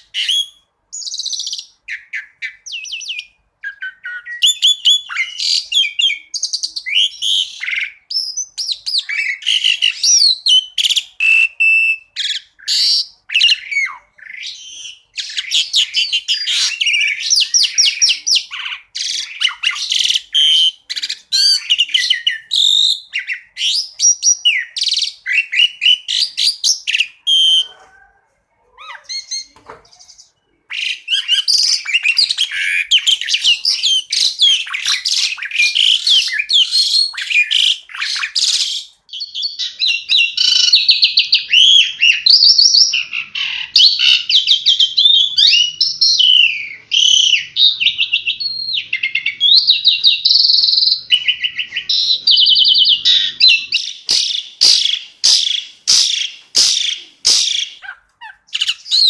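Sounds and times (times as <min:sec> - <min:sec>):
starling singing whistles and trills: 0:00.0 - 0:28.1, 0:28.7 - 0:59.0.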